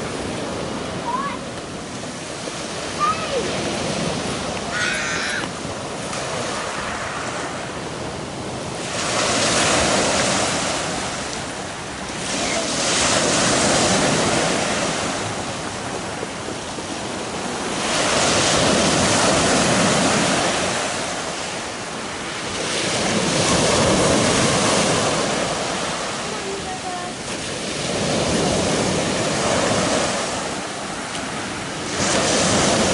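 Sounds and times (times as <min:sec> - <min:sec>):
wind on microphone: 0:00.0 - 0:32.9.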